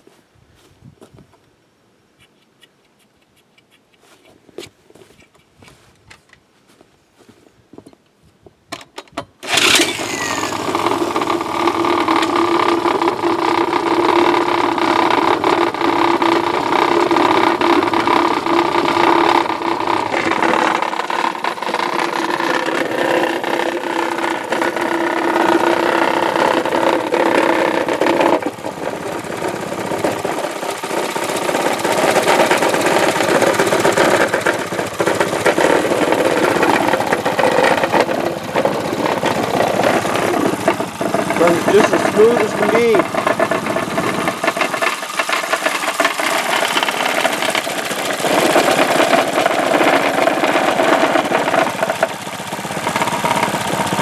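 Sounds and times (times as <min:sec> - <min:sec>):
small engine running: 0:09.4 - 0:54.0.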